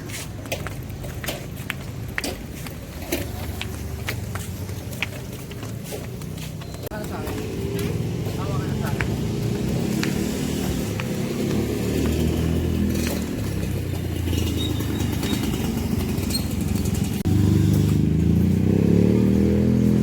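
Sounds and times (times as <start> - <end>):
vehicle engine running: 3.2 - 20.0.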